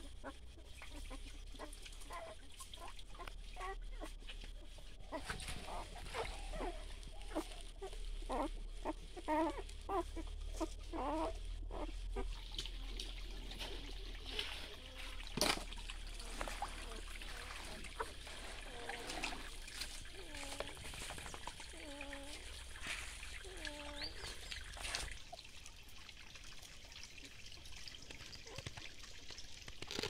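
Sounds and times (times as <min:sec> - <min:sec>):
puppies whimpering and squealing: 0:00.0 - 0:15.2, 0:16.1 - 0:25.1
stream trickling over rocks: 0:00.0 - 0:30.0.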